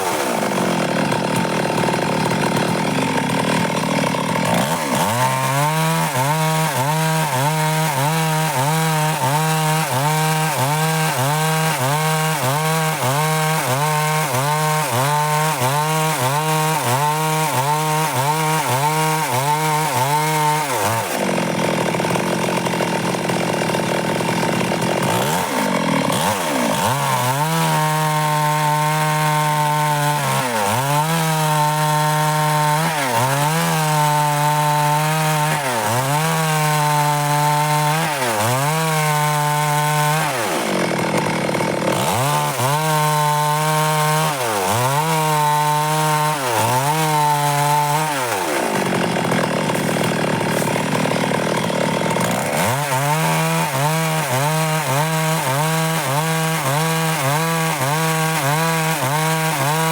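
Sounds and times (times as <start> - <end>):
chainsaw cutting dry wood: 0.0 - 59.9.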